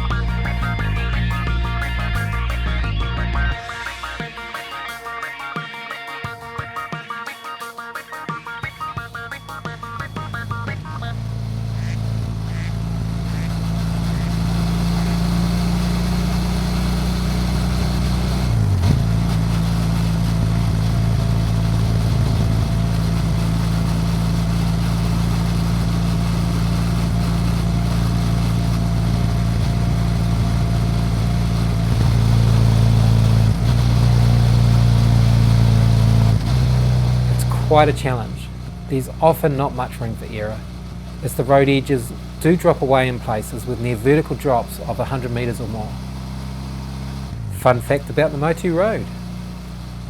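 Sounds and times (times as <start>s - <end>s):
motorcycle engine running: 0.0s - 50.0s
road noise: 0.0s - 50.0s.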